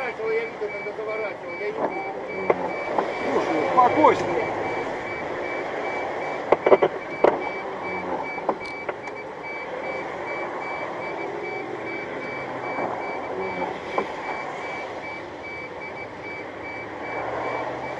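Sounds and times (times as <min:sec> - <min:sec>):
high-pitched warning beeps: 0:00.0 - 0:17.9
traffic noise: 0:00.0 - 0:17.9.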